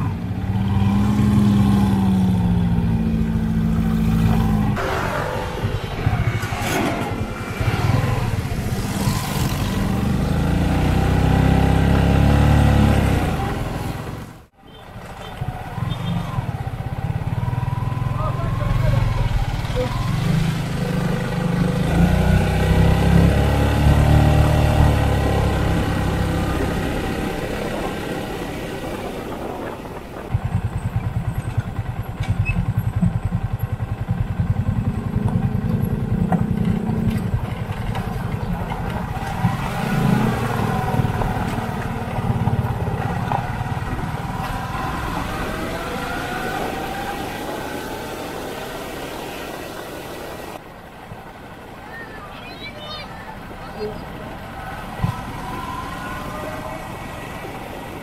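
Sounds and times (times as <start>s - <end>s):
motorcycle engines revving: 0.0s - 50.6s, 51.3s - 58.0s.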